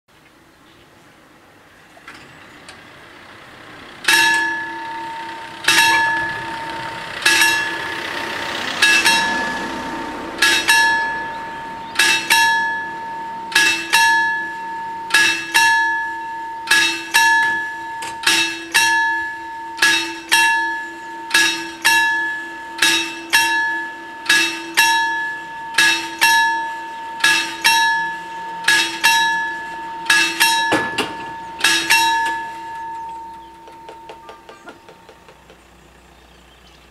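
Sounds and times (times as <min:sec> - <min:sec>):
level crossing bells ringing: 0:03.8 - 0:36.1.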